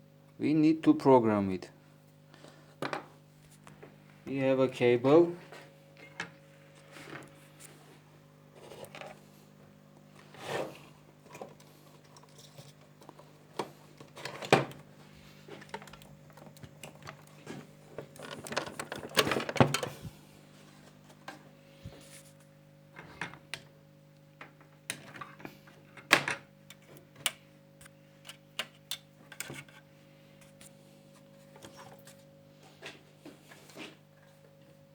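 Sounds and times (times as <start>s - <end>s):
low electrical hum: 0.0s - 34.9s.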